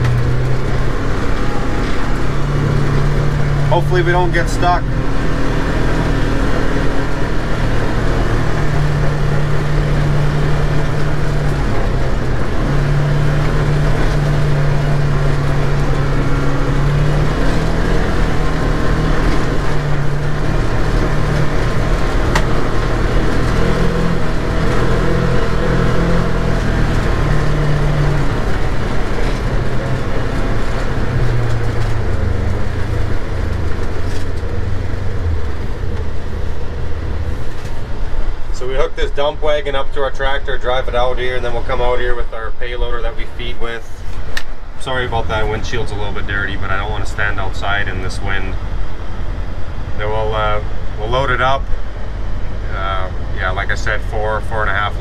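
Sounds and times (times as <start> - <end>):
road noise in snow: 0.0 - 55.0
vehicle engine: 0.0 - 55.0.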